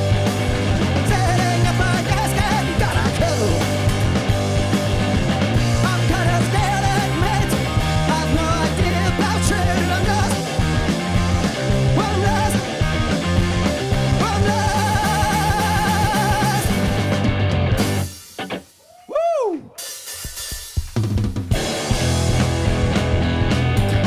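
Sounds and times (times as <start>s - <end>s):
live rock band playing: 0.0s - 18.9s, 19.6s - 24.0s.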